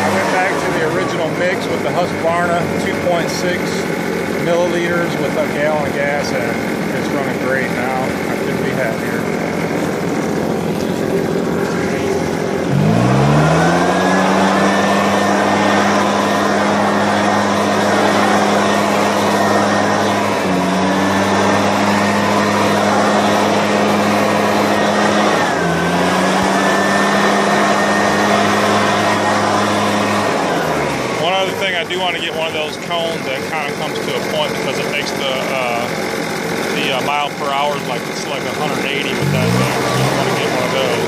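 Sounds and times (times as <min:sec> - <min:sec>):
leaf blower engine revving: 0:00.0 - 0:41.0.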